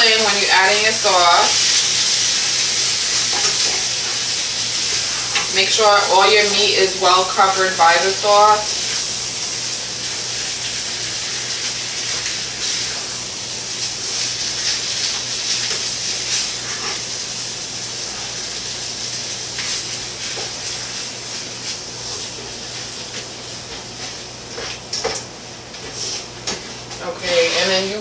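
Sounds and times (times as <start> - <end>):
sauce sizzling and bubbling: 0.0 - 27.0.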